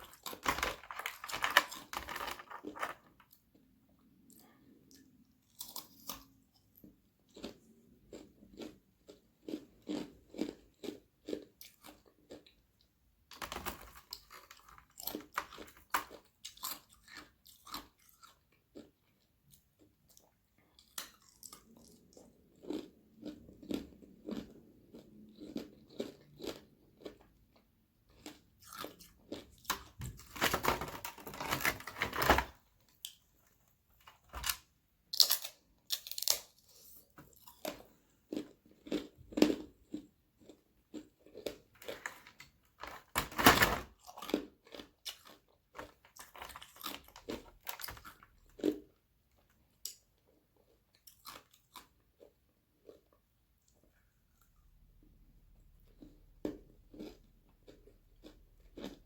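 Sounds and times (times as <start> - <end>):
biting and chewing ice: 0.0 - 33.2, 34.3 - 43.3, 43.9 - 53.9, 55.9 - 59.0.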